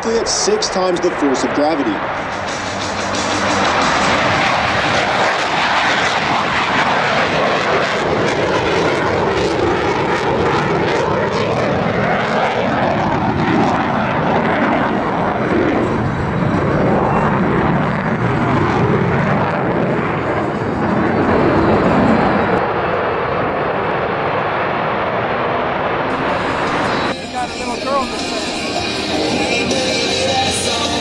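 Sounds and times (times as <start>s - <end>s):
jet aircraft roaring past: 0.0s - 31.0s.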